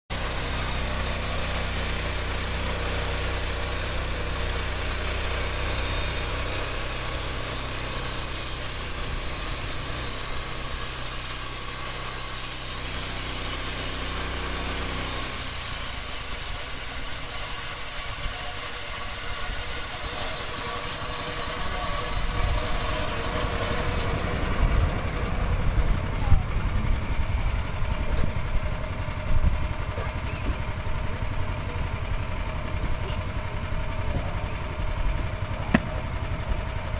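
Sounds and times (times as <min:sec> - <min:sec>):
band saw cutting log: 0:00.1 - 0:26.2, 0:30.7 - 0:36.9
small gasoline engine running: 0:00.1 - 0:36.9.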